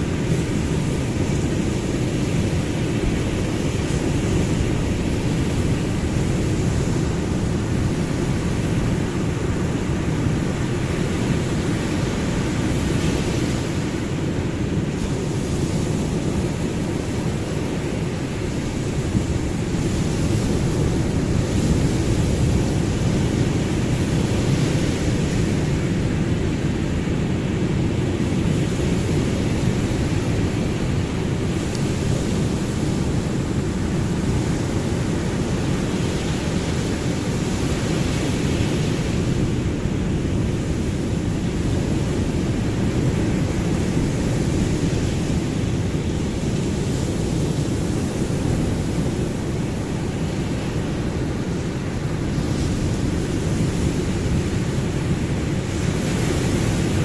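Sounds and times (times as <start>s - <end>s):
ocean waves: 0.0s - 57.0s.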